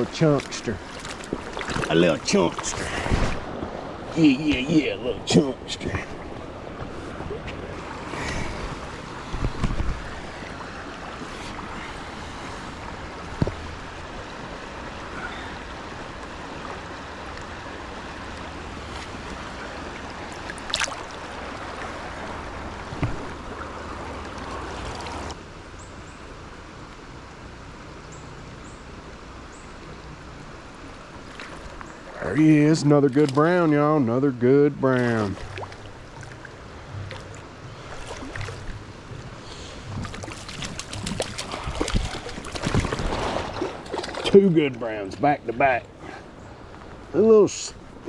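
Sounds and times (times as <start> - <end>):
river water rushing: 0.0 - 25.7, 35.0 - 48.0.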